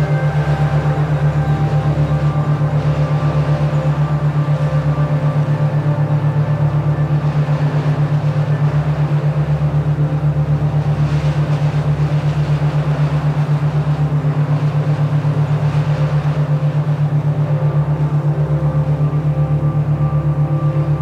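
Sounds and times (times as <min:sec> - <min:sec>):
low pulsing synth hum: 0:00.0 - 0:21.0
soft sustained high tones: 0:00.0 - 0:21.0.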